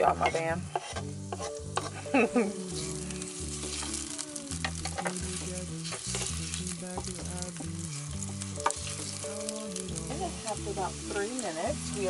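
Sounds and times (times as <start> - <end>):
spatula scraping and tapping pan: 0.0 - 10.3
onions sizzling in oil: 0.0 - 12.0
low stepped tone: 1.0 - 11.2.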